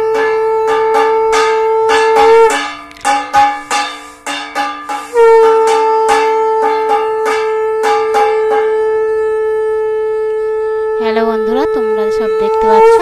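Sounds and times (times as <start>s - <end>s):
conch shell blown: 0.0s - 13.0s
sharp plucked notes: 0.0s - 13.0s.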